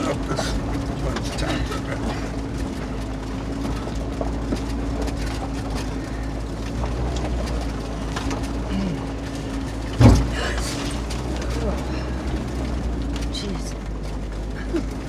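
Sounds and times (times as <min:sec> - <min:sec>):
engine and drivetrain rumble: 0:00.0 - 0:15.0
small knocks and rattles: 0:00.0 - 0:15.0
tyres crunching over stones: 0:00.0 - 0:15.0.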